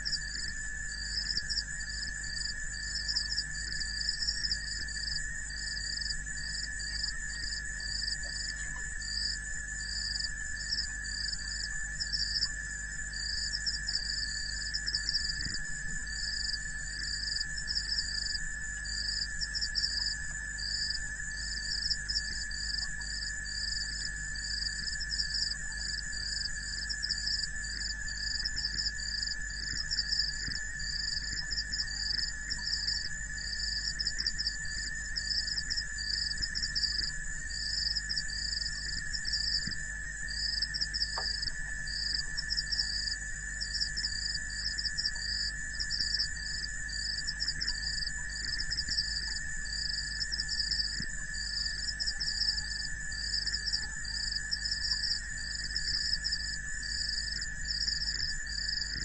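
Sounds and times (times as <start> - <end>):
high insect drones: 0.0 - 59.0
insects pulsing chirp: 0.0 - 59.0.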